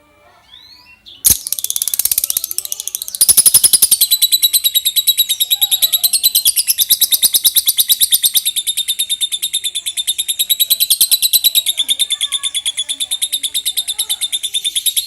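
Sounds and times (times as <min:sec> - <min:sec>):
lovebird shrill chattering song: 0:00.5 - 0:15.0.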